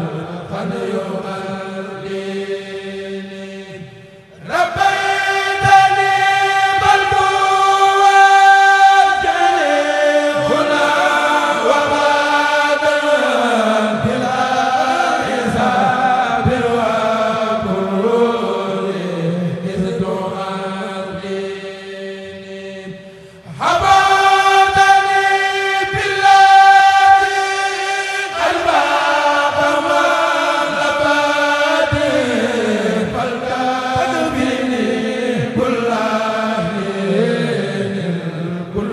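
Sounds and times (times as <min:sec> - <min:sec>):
group chanting devotional poetry: 0:00.0 - 0:38.9.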